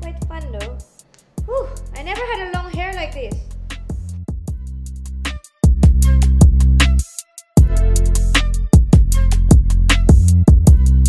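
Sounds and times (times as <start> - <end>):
drum beat with bass notes: 0.0 - 11.0.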